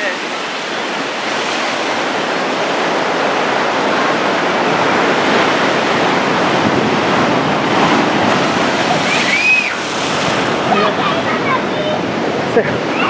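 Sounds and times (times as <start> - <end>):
heavy surf breaking on shore: 0.0 - 13.0.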